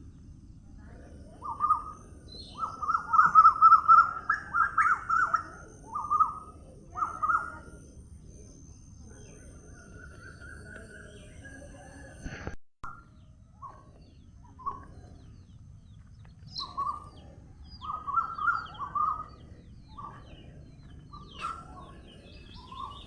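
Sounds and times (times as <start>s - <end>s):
songbirds chirping and singing: 0.0s - 12.4s, 13.0s - 23.0s.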